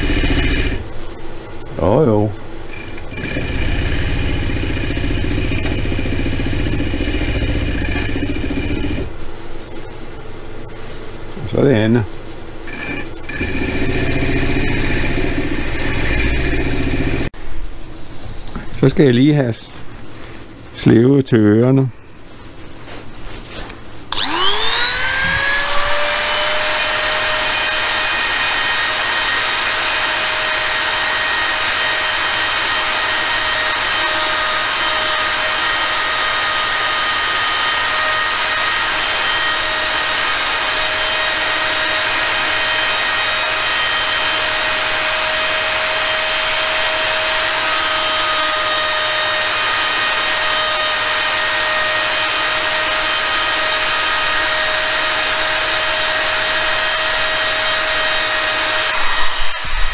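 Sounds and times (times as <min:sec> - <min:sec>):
rotary tool whining: 0:00.0 - 0:17.3, 0:24.1 - 0:59.9.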